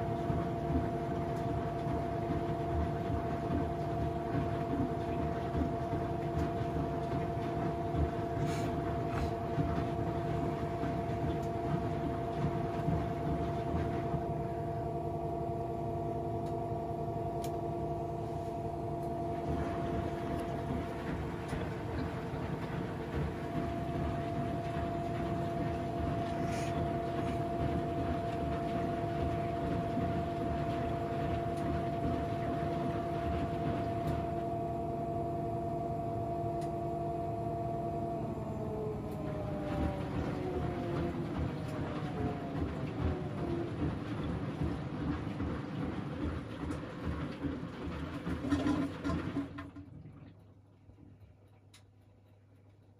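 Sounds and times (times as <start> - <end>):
washing machine running: 0.0 - 52.9.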